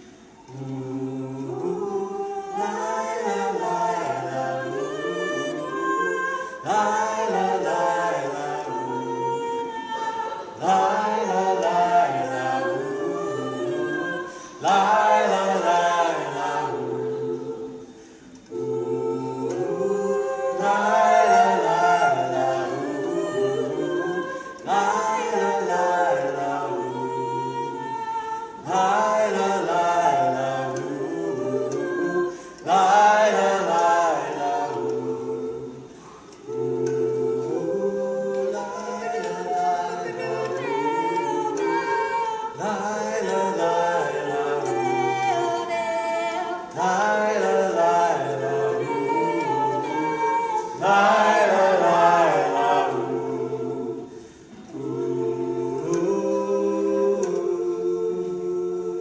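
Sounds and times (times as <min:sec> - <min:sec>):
voices singing a cappella harmony: 0:00.0 - 0:59.0.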